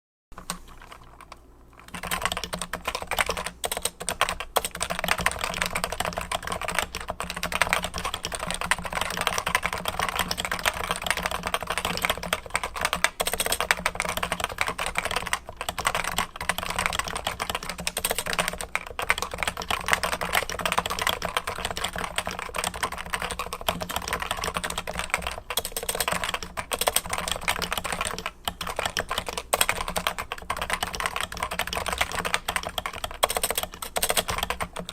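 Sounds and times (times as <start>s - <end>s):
fast keyboard typing: 0.4s - 34.9s.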